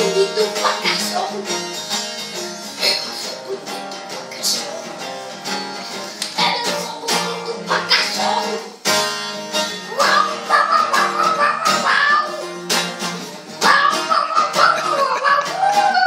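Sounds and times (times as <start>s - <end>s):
song with strummed acoustic guitar: 0.0s - 16.0s.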